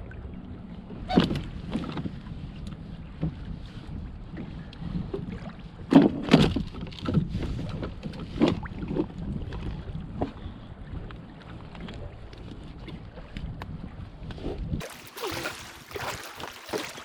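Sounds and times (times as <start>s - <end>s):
wind rumble on microphone: 0.0s - 14.8s
water splashing against kayak: 0.6s - 17.0s.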